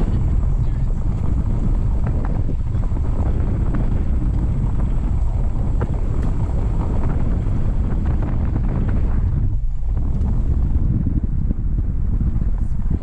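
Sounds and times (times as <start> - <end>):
tyres rumbling on gravel: 0.0 - 13.0
wind buffeting microphone: 0.0 - 13.0.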